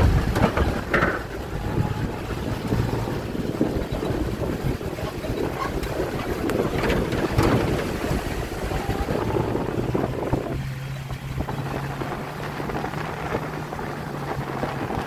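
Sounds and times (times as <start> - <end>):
low engine hum: 0.0 - 15.0
road rumble: 0.0 - 15.0
wind noise on microphone: 0.0 - 15.0.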